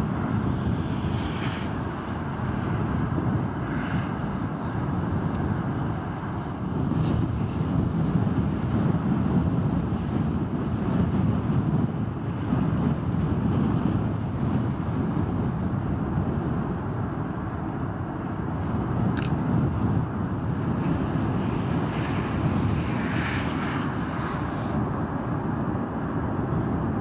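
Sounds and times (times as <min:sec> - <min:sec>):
jet engine roar: 0:00.0 - 0:27.0
wind on microphone: 0:00.0 - 0:27.0.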